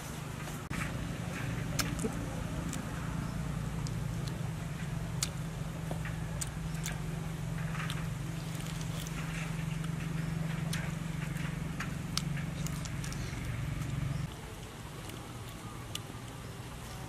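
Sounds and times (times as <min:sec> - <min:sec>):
steady low hum: 0:00.0 - 0:17.0
chewing and lip-smacking: 0:01.4 - 0:07.0, 0:07.6 - 0:17.0.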